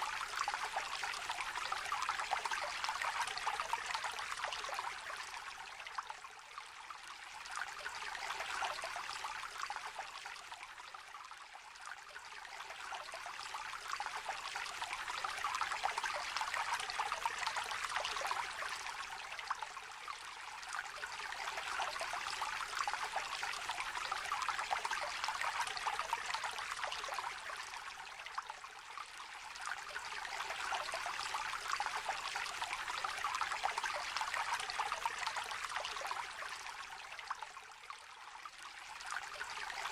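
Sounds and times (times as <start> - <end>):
small river babbling: 0.0 - 39.9.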